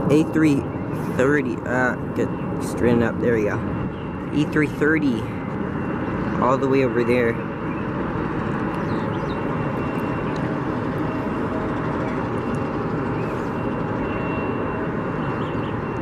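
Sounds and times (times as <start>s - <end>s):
distant jet aircraft rumble: 0.0s - 16.0s
faint high whine: 0.0s - 16.0s.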